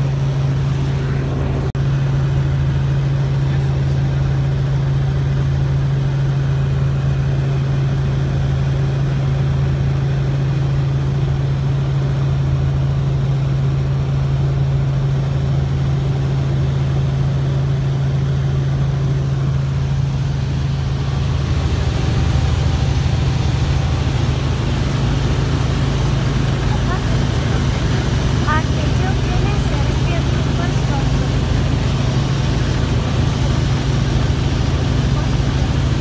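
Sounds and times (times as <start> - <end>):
helicopter rotor and engine drone: 0.0 - 36.0.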